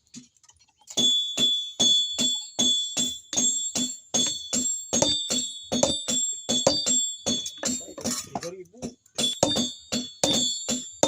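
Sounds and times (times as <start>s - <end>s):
hammer ringing on iron: 1.0s - 11.0s.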